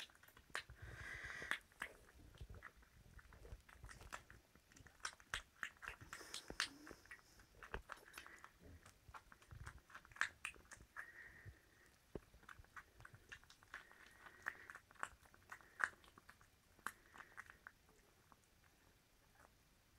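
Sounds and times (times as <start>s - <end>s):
puppies chewing and lip-smacking: 0.0s - 19.9s.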